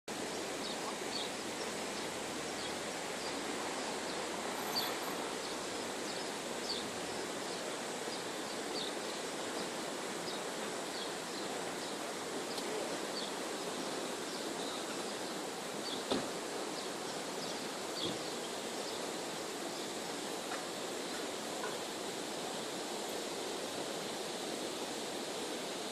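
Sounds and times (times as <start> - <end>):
steady rushing hiss: 0.1 - 25.9.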